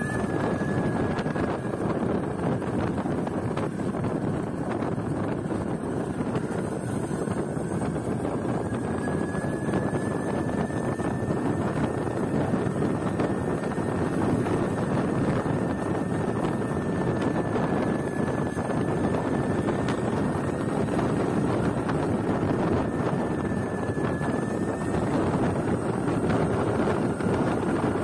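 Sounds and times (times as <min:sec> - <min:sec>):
high whine of electric motor: 0:00.0 - 0:28.0
wind buffeting microphone: 0:00.0 - 0:28.0.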